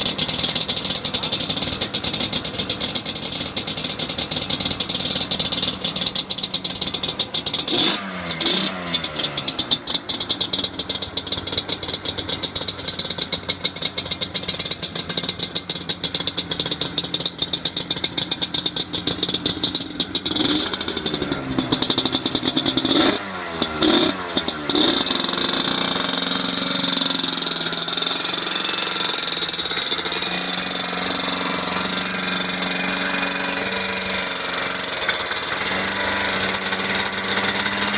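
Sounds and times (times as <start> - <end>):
two-stroke engine revving: 0.0 - 37.9.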